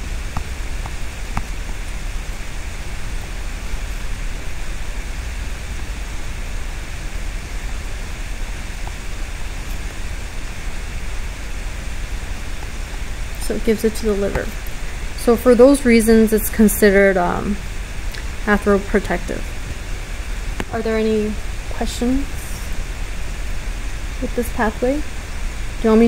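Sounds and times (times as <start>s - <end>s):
low hum: 0.0s - 26.0s
steady hiss: 0.0s - 26.0s.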